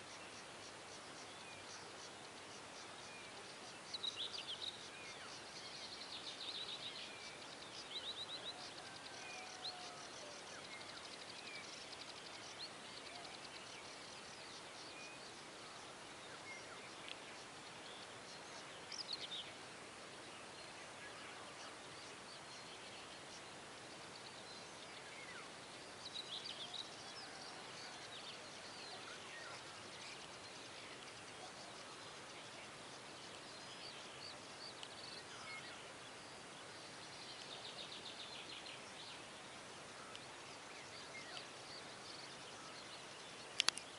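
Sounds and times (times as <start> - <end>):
small birds chirping and trilling: 0.0 - 43.9
steady background hiss: 0.0 - 43.9.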